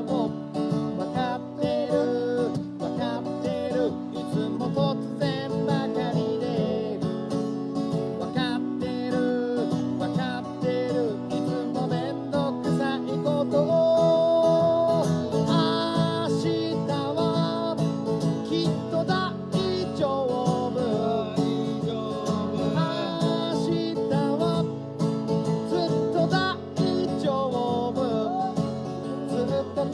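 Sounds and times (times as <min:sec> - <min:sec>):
acoustic guitar playing: 0:00.0 - 0:29.9.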